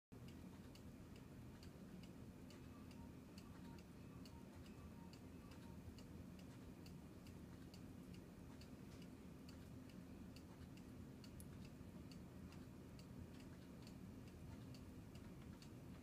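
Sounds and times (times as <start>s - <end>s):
clock ticking: 0.1s - 16.0s.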